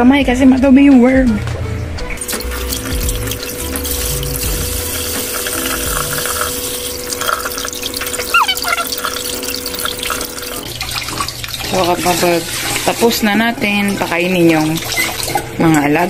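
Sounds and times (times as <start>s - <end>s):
tap water splashing in sink: 2.2s - 16.0s.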